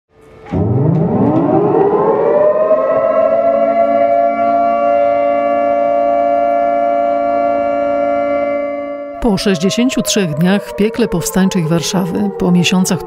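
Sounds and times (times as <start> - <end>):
siren winding up and wailing: 0.5 - 8.4, 9.2 - 13.0.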